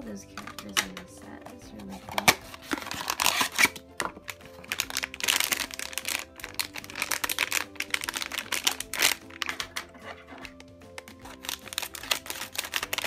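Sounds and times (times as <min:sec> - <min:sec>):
light background music: 0:00.0 - 0:13.0
foil wrapper crinkling: 0:02.1 - 0:13.0.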